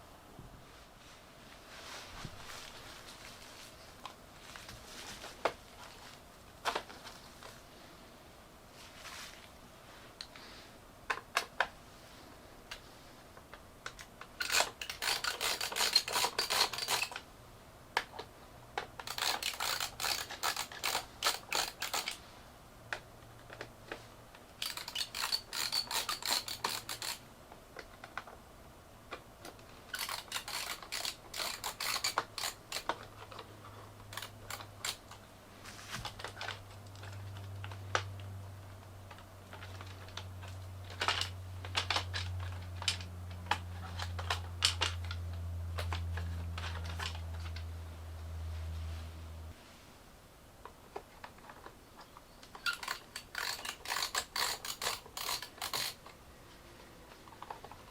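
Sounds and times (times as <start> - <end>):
faint low hum: 0.0 - 53.9.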